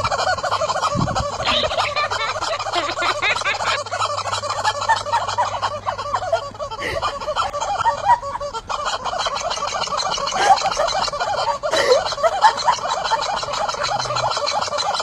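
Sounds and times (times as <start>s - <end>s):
rubber squeaky chicken toy: 0.0s - 15.0s.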